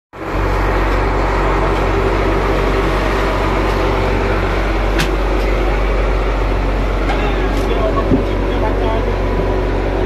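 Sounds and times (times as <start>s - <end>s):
boat engine drone: 0.1s - 10.0s.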